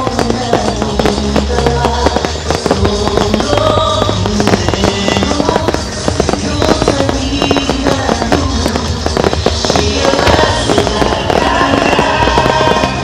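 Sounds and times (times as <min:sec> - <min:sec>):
fireworks popping and crackling: 0:00.0 - 0:13.0
music: 0:00.0 - 0:13.0.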